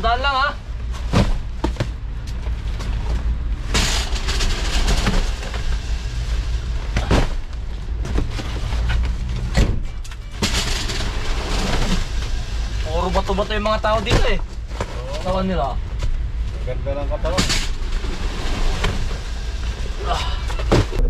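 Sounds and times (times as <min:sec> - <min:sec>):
steady low hum: 0:00.0 - 0:21.0
cartons rolling on roller conveyor: 0:00.7 - 0:21.0.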